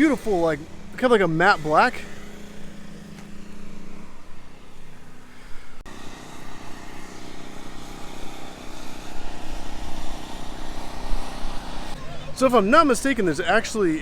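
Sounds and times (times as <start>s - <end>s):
engine drone: 0.0s - 14.0s
outdoor background noise: 0.0s - 14.0s.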